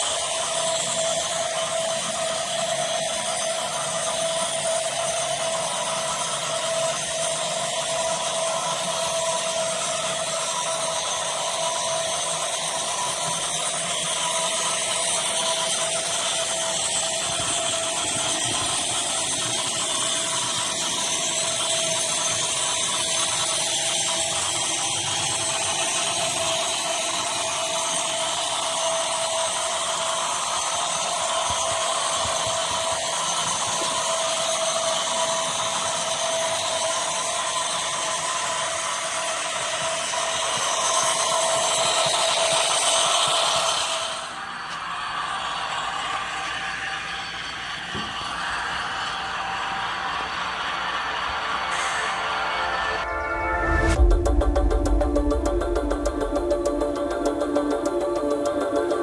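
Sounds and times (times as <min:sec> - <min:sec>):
model locomotive diesel engine sound: 0:00.0 - 0:59.0.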